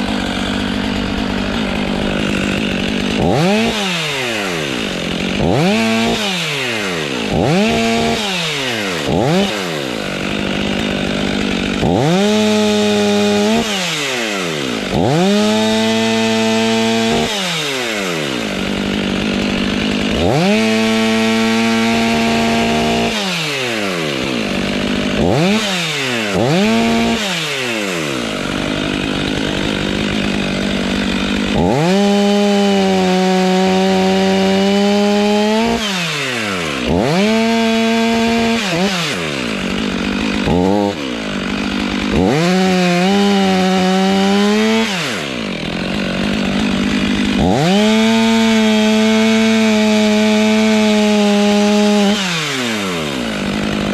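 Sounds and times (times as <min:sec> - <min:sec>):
chainsaw revving and idling: 0:00.0 - 0:53.9.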